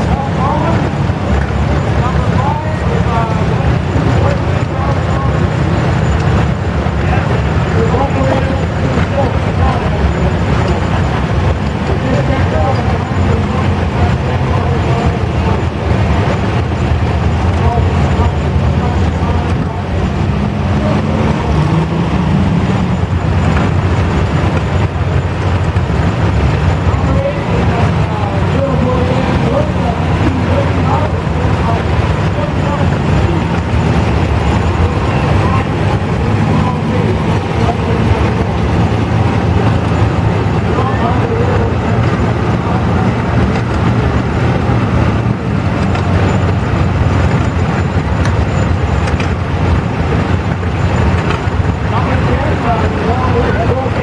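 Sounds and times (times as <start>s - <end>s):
tractor engines rumbling: 0.0s - 54.0s.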